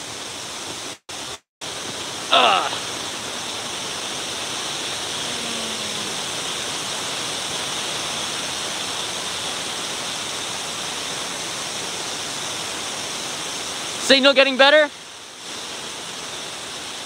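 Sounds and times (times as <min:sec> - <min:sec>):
waterfall rushing hiss: 0:00.0 - 0:17.0.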